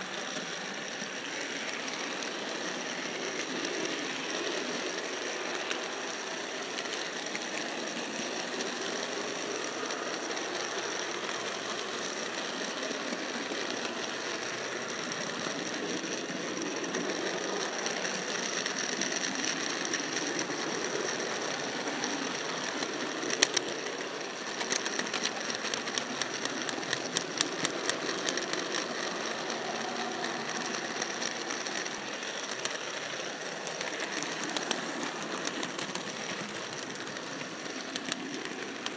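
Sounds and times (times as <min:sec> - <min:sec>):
model train motor rattle and whine: 0:00.0 - 0:38.9
wheels clicking over rail joints: 0:00.0 - 0:38.9.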